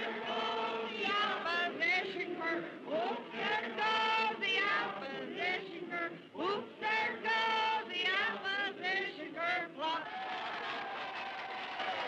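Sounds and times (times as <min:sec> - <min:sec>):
group of voices singing: 0:00.0 - 0:10.0.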